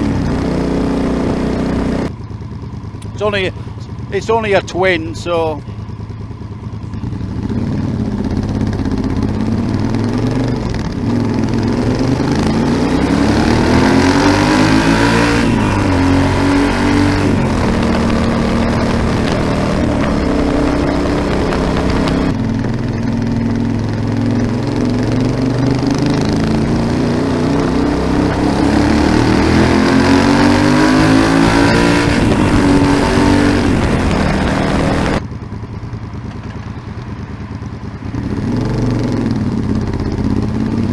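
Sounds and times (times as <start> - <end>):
motorcycle engine accelerating hard: 0.0 - 40.9.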